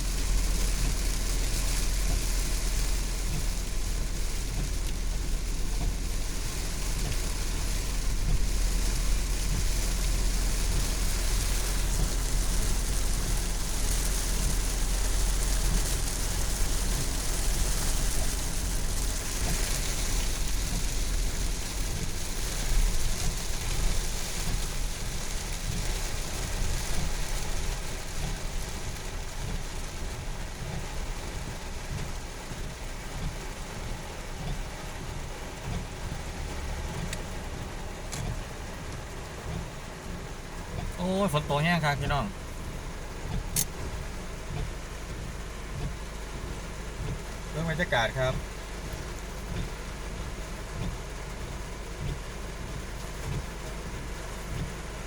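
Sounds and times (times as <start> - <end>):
low rumble: 0.0 - 47.6
heavy rain pouring: 0.0 - 55.0.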